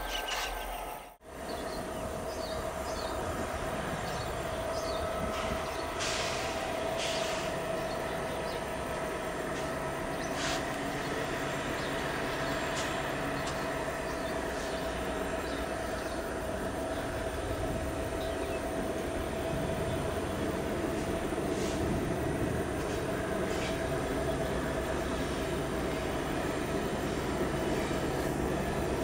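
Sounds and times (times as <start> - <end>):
hissing from wheels and rails: 0.0 - 29.0.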